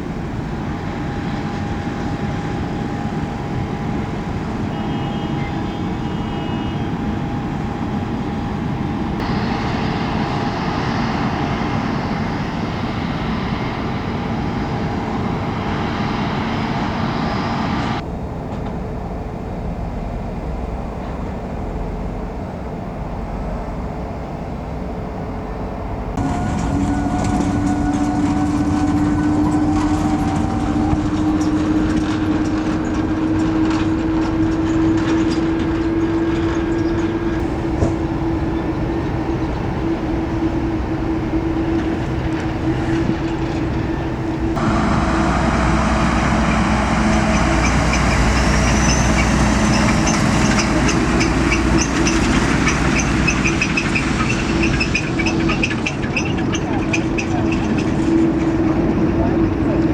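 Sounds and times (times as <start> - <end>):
train rumbling with thin whine: 0.0 - 59.9.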